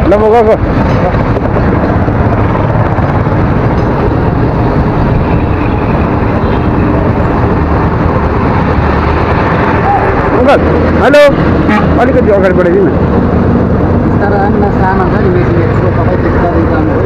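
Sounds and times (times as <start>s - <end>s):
motorcycle engine: 0.0s - 17.0s
traffic noise: 0.0s - 17.0s
wind noise: 0.0s - 17.0s.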